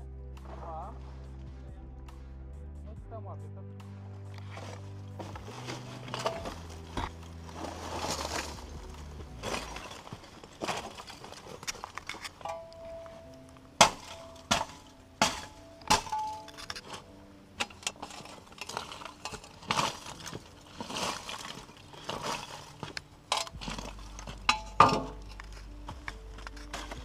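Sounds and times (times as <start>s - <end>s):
charcoal lumps clinking: 4.4s - 27.0s.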